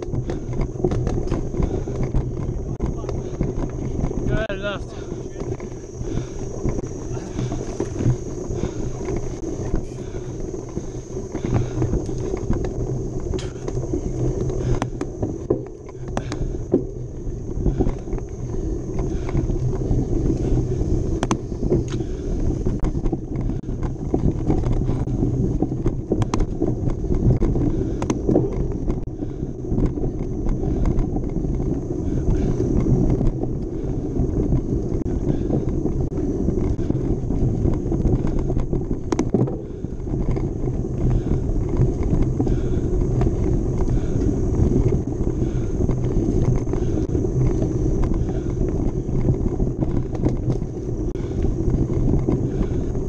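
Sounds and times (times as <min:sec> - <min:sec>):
bike clicks and knocks: 0:00.0 - 0:53.0
tyres rumbling on dirt trail: 0:00.0 - 0:53.0.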